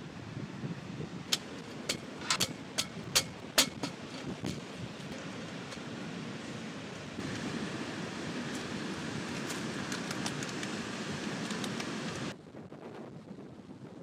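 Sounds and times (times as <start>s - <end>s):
waves on the shore: 0.0s - 12.4s
wind: 0.0s - 14.0s.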